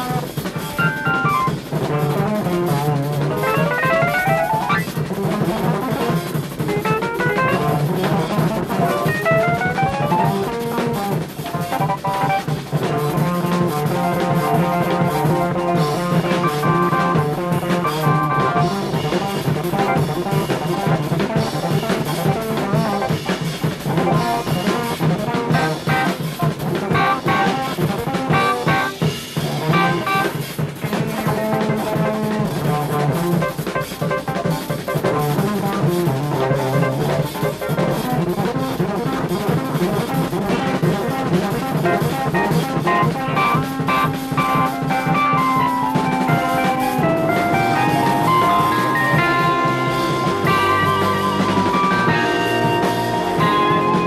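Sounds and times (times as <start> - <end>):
keyboards: 0.0 - 29.0, 29.6 - 54.0
drum kit: 0.0 - 54.0
electric guitar: 0.0 - 54.0.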